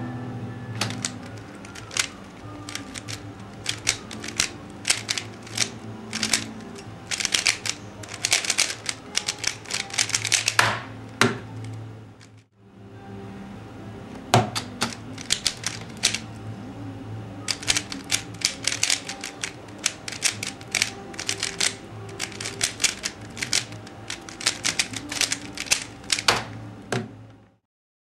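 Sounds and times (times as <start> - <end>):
plastic clicks of puzzle cube turning: 0.8 - 12.4, 14.6 - 16.2, 17.5 - 27.1.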